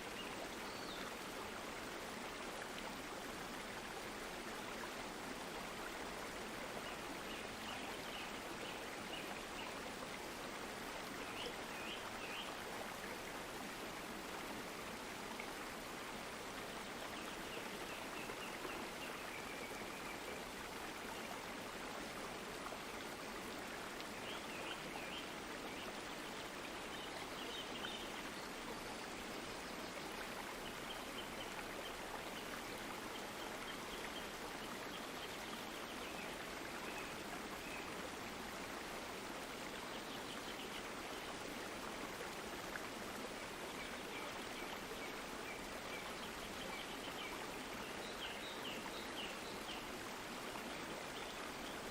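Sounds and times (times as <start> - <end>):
water rushing in a stream: 0.0 - 51.9.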